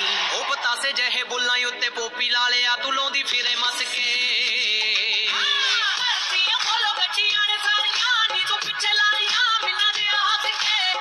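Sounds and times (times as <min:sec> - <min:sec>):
pop song with singer: 0:00.0 - 0:11.0.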